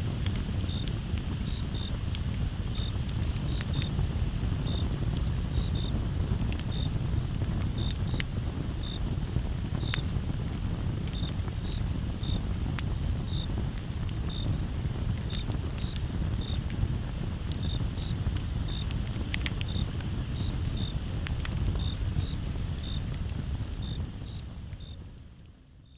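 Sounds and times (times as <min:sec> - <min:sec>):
campfire crackling and popping: 0:00.0 - 0:25.5
crickets chirping: 0:00.0 - 0:25.9
high insect trill: 0:00.3 - 0:25.9.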